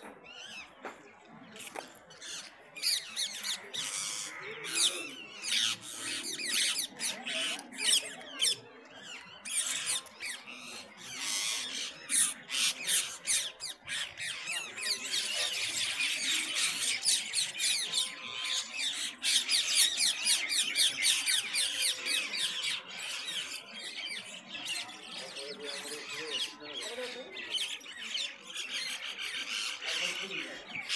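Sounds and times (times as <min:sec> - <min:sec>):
small birds chirping and squawking: 0:00.0 - 0:30.9.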